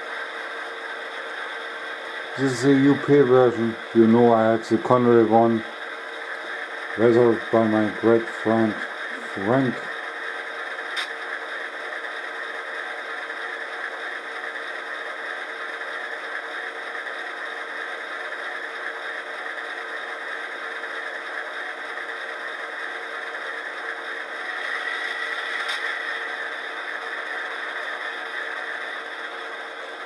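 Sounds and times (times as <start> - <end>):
diesel engine sound from small speaker: 0.0 - 30.0.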